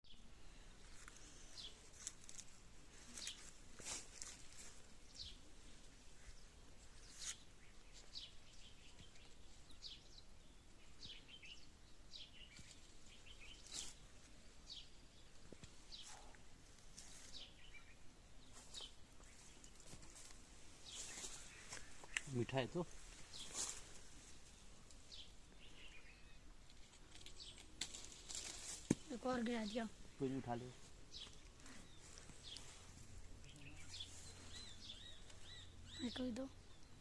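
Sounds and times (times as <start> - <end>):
birds chirping: 0.0 - 2.4, 3.0 - 37.0
faint outdoor hush: 0.0 - 37.0.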